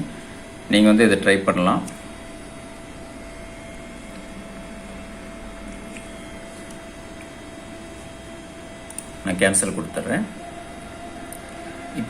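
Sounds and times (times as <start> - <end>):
faint constant tone: 0.0 - 12.0
low hum: 0.0 - 12.0.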